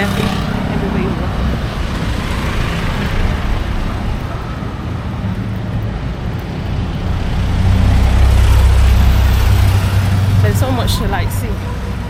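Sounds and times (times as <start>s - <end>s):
street traffic: 0.0s - 12.0s
vehicle engine rumbling: 0.0s - 12.0s.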